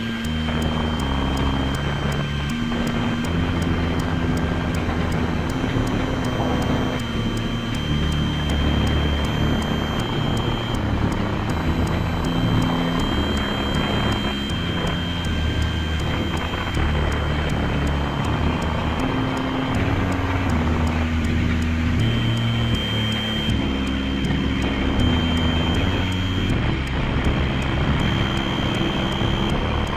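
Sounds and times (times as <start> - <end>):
low droning synth notes: 0.0 - 29.9.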